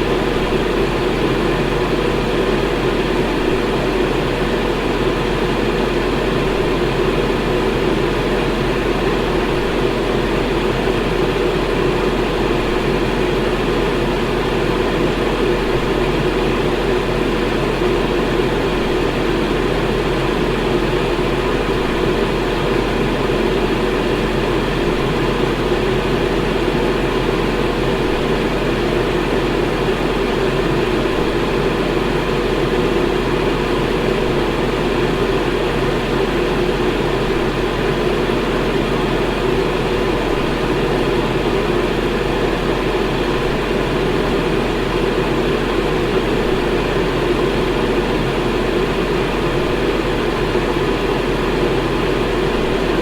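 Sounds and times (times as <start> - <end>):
electric fan running: 0.0 - 53.0.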